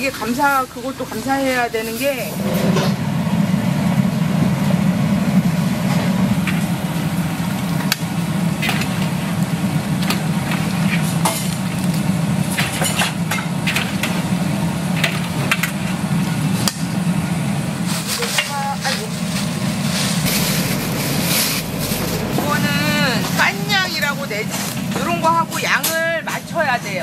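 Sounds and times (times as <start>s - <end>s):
gas burner running: 0.0s - 27.0s.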